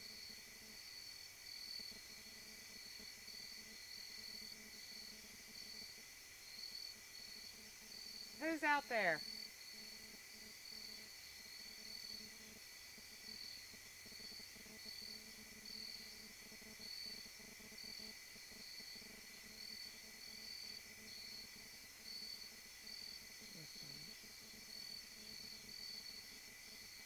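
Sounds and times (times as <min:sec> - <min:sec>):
steady high insect trill: 0:00.1 - 0:08.4, 0:09.2 - 0:27.0
crickets chirping: 0:00.1 - 0:27.0.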